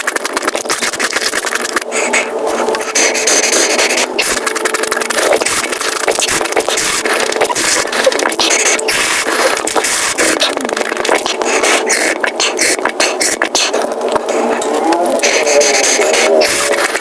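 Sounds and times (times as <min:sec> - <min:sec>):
fast crunching and chewing: 0:00.0 - 0:17.0.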